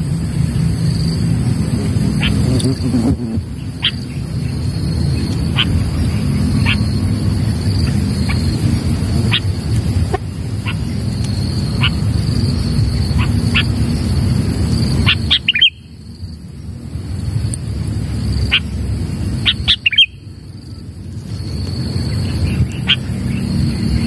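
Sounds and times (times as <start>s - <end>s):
high insect buzz: 0.0s - 24.0s.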